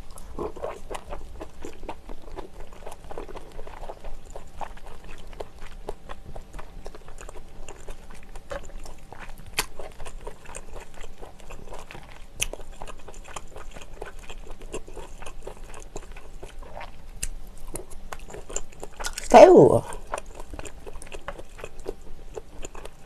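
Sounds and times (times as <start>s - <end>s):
wet chewing and mouth sounds: 0.0s - 23.0s.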